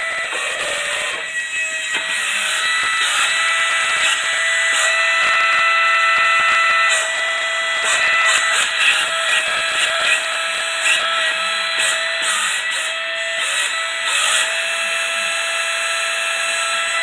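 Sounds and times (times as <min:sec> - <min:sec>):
suction fan motor whining: 0:00.0 - 0:17.0.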